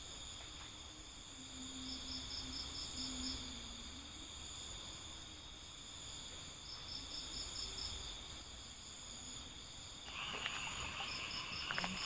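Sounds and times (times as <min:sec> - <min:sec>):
crickets trilling: 0:00.0 - 0:12.0
insect chirping in pulses: 0:00.0 - 0:12.0
rasping insect call: 0:00.0 - 0:12.0.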